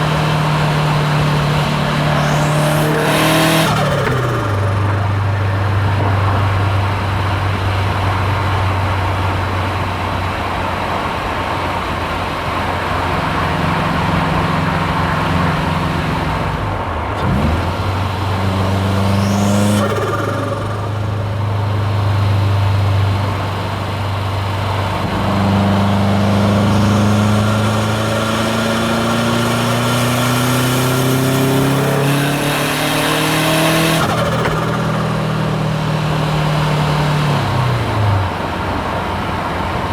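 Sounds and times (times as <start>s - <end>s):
turbocharged car engine accelerating: 0.0s - 39.9s.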